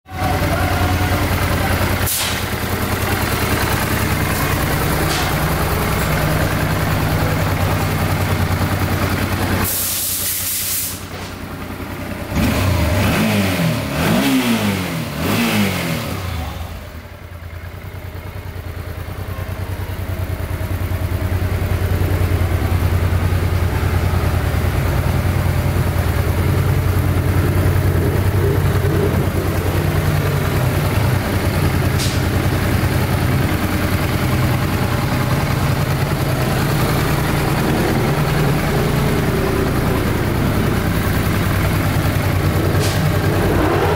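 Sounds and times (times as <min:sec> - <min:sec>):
motorcycle engine idling: 0:00.1 - 0:43.9.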